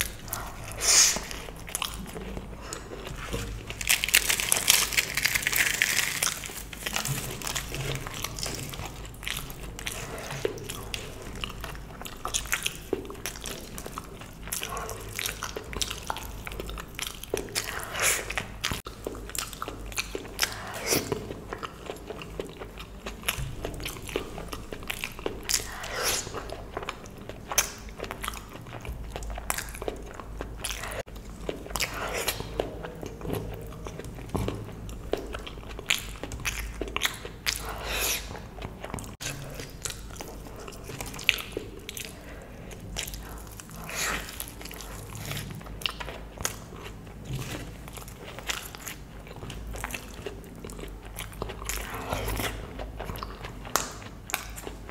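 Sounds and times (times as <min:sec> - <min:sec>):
close chewing: 0:00.0 - 0:54.9.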